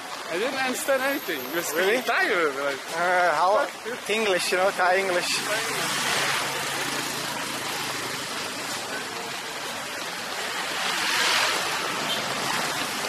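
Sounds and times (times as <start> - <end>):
scooters and cars passing: 0.0 - 13.0.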